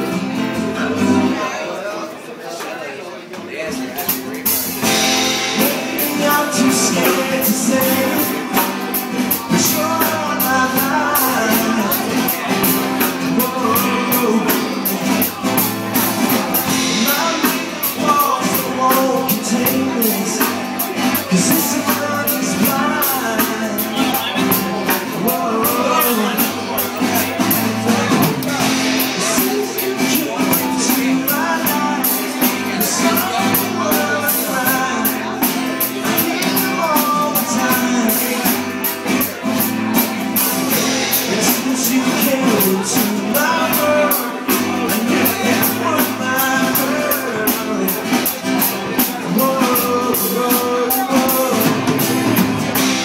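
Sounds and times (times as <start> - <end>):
man singing into a microphone: 0.0 - 2.1, 3.5 - 53.0
strummed acoustic guitar: 0.0 - 2.3, 3.3 - 53.0
drum kit with cymbals: 3.7 - 53.0.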